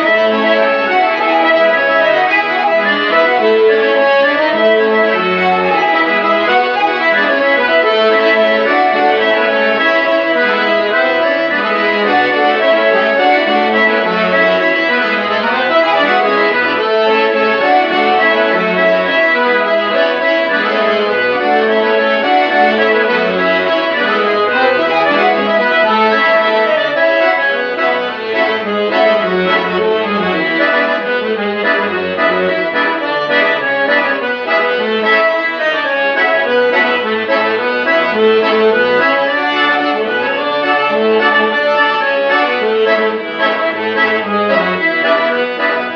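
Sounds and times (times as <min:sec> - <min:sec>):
accordion playing folk tune: 0:00.0 - 0:45.9.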